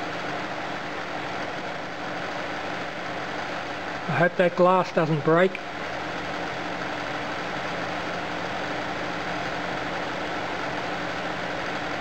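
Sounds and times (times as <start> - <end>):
faint low electrical hum: 0.0 - 12.0
fans whirring: 0.0 - 12.0.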